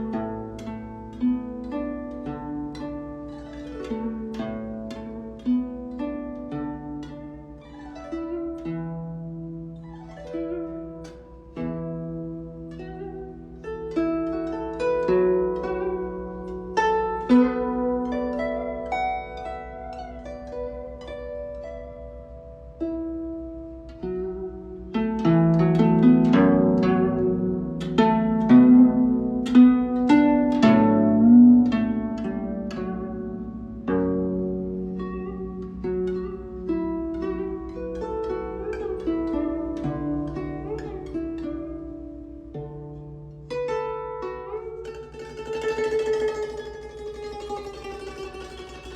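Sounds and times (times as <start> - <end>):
guzheng slow melody: 0.0 - 48.9.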